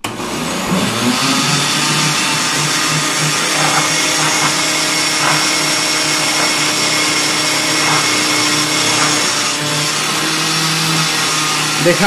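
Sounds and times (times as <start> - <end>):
blender running: 0.0 - 12.0.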